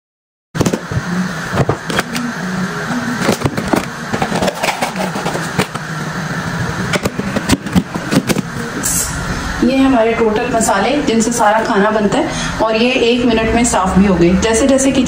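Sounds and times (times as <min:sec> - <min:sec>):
steady hum: 0:00.6 - 0:15.0.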